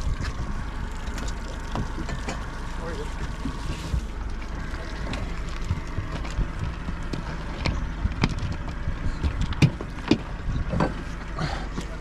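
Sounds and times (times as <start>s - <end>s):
knocks and clicks on hull: 0.0s - 2.6s, 3.2s - 12.0s
low rumble aboard boat: 0.0s - 12.0s.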